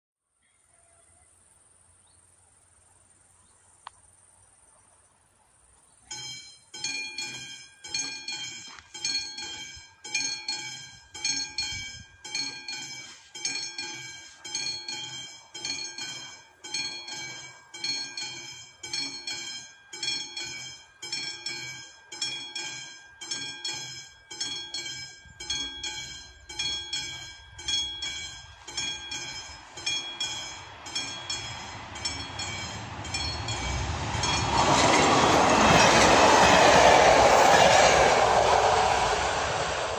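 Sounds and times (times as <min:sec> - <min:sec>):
low rumble of approaching train: 0:05.3 - 0:39.9
level crossing warning bell ringing: 0:06.1 - 0:39.0.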